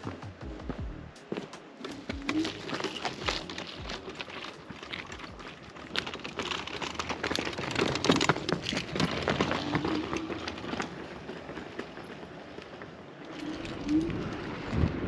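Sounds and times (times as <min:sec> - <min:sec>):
crunching footsteps: 0:00.0 - 0:15.0
scooter wheels rattling over stone: 0:01.8 - 0:15.0.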